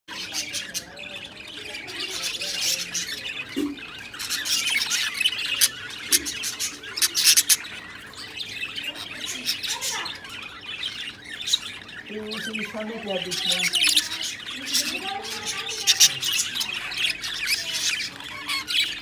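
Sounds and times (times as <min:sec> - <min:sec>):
budgerigars chattering and chirping: 0:00.1 - 0:19.0.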